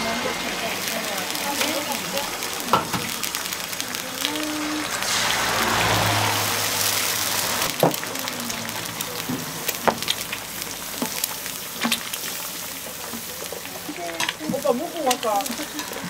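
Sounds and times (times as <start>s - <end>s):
butter sizzling: 0.0s - 16.0s
eggs sizzling on a griddle: 0.0s - 16.0s.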